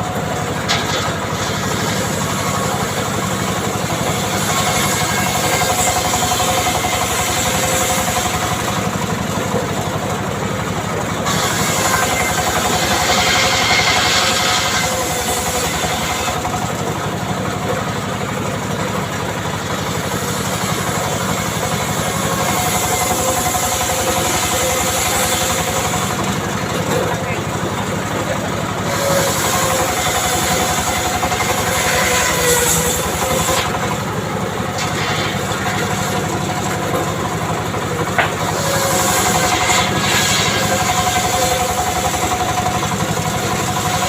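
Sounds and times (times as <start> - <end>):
wood saw engine running: 0.0 - 44.0.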